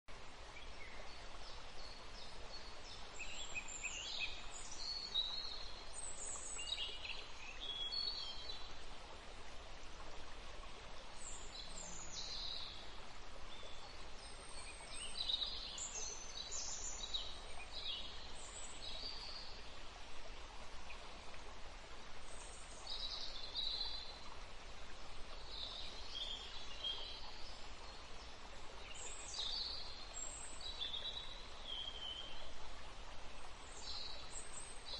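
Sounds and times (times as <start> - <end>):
outdoor background hiss: 0.1 - 34.9.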